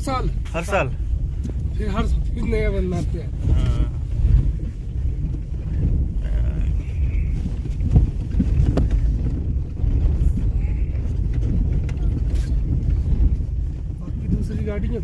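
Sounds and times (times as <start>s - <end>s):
vehicle road rumble: 0.0s - 15.0s.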